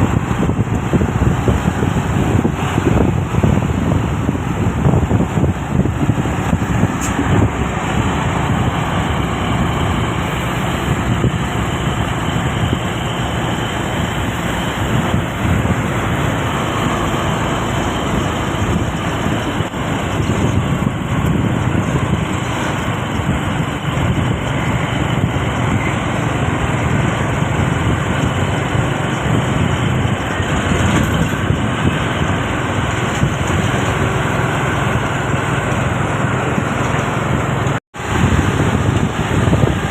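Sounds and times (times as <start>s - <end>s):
road and tyre noise: 0.0s - 39.9s
vehicle engine drone: 0.0s - 39.9s.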